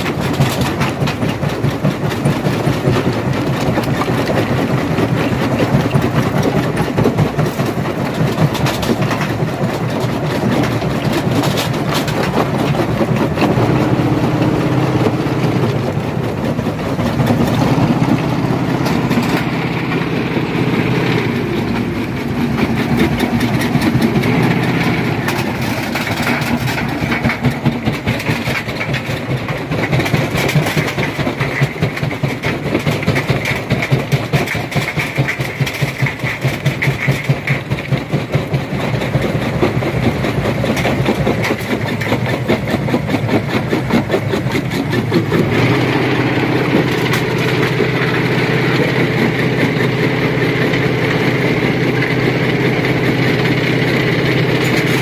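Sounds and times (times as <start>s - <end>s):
rocks rattling being crushed: 0.0s - 55.0s
stone crusher engine drone: 0.0s - 55.0s.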